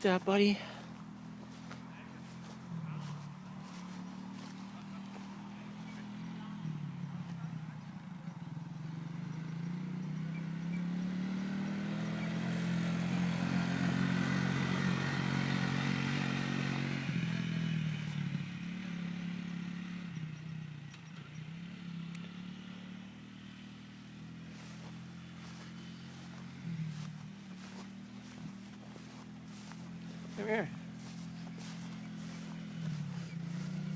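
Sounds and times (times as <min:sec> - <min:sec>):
atv engine passing by: 0:00.0 - 0:33.9.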